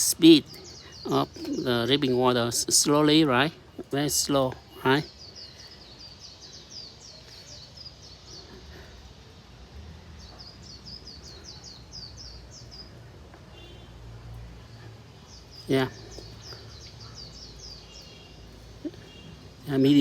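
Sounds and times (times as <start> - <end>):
faint low background noise: 0.0 - 20.0
small bird chirping: 0.0 - 20.0.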